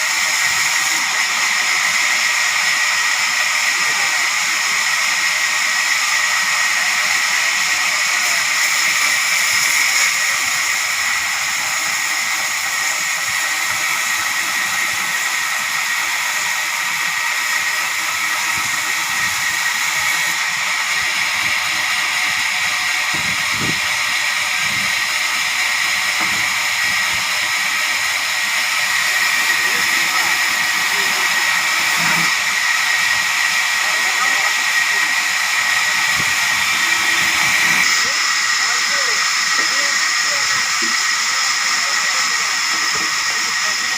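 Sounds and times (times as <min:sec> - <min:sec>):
sawmill saw whining: 0:00.0 - 0:43.9.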